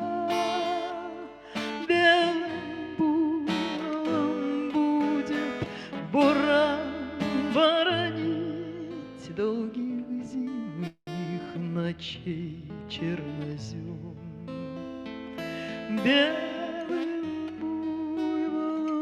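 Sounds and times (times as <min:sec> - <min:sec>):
person singing with vibrato: 0:00.0 - 0:14.7, 0:15.4 - 0:19.0
acoustic guitar strumming: 0:00.0 - 0:19.0.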